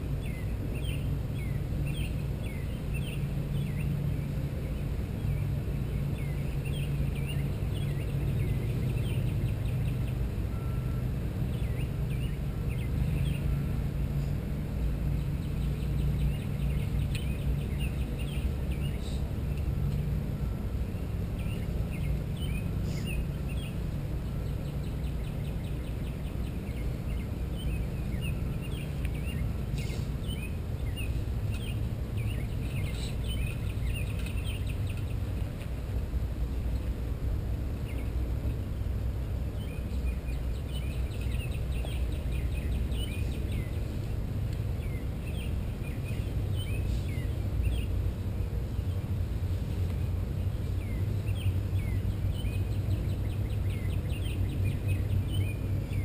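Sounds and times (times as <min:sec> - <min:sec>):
small birds chirping: 0:00.0 - 0:38.6, 0:39.2 - 0:56.0
steady low rumble: 0:00.0 - 0:56.0.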